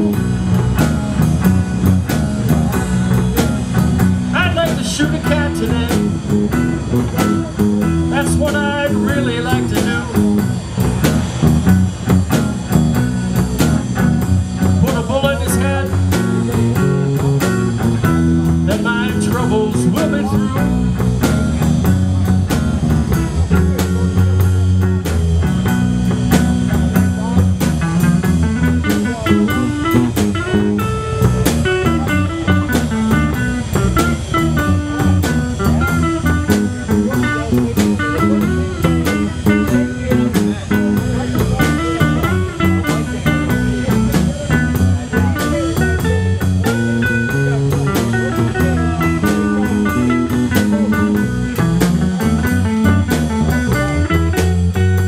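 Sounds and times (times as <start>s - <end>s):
bass line: 0.0s - 55.0s
drum kit: 0.0s - 55.0s
electric guitars: 0.0s - 55.0s.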